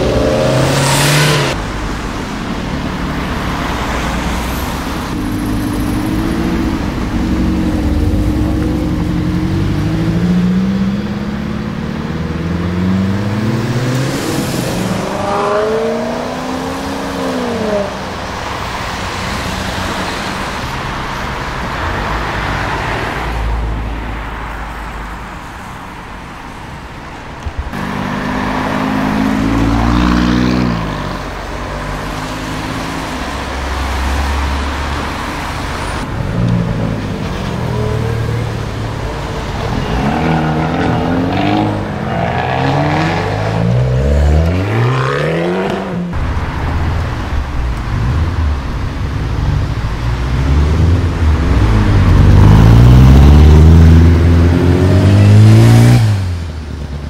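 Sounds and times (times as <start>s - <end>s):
sports car engines accelerating: 0.0s - 20.8s, 27.7s - 57.0s
road noise: 0.0s - 57.0s.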